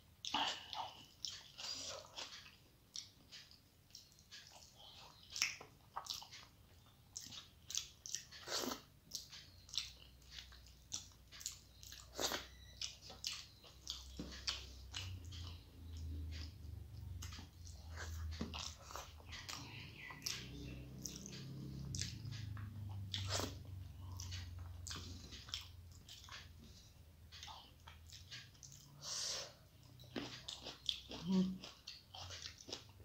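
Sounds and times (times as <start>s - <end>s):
person chewing with wet smacks: 0.2s - 33.0s.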